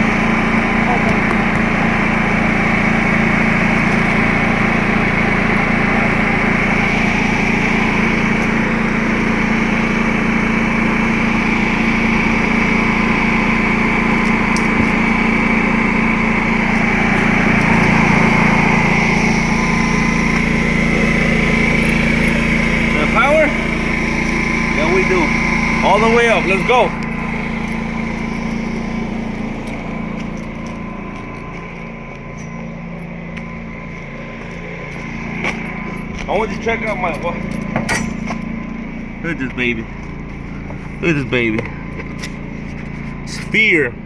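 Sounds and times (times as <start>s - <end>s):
generator engine running: 0.0s - 44.0s.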